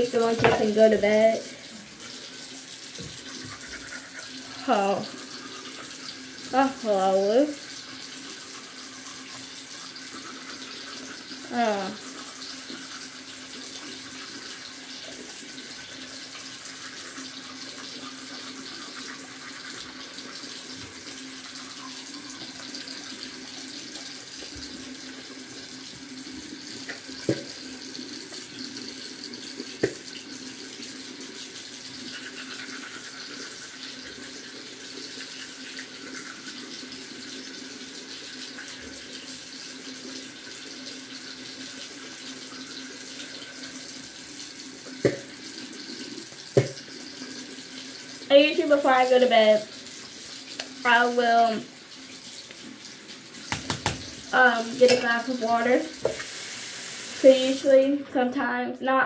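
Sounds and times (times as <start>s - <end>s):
tap running into basin: 0.0s - 57.4s.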